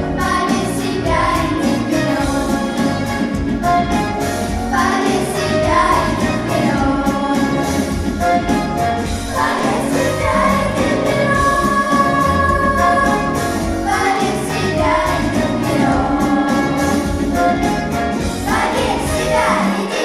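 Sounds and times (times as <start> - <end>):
musical accompaniment with beat: 0.0 - 20.0
voices singing held notes: 0.0 - 20.0.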